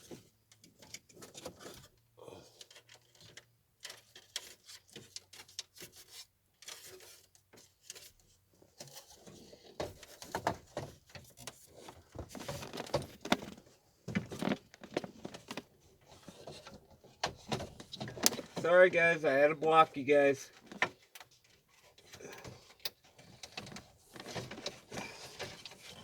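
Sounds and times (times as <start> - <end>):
hands handling parts and wiring: 2.6 - 18.9, 20.5 - 26.0.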